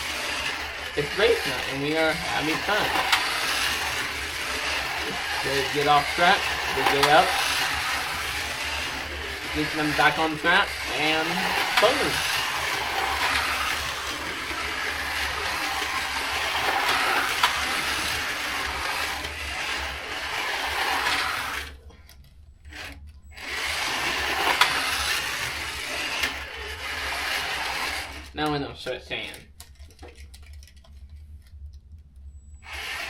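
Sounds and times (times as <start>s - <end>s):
wheels rattling on plastic track: 0.0s - 31.1s, 32.6s - 33.0s
slot car motors whirring: 0.0s - 31.7s, 32.3s - 33.0s.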